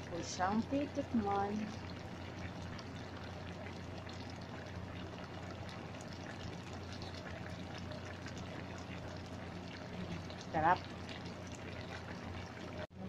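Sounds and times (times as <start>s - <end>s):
stew boiling with bubbling pops: 0.0s - 13.0s.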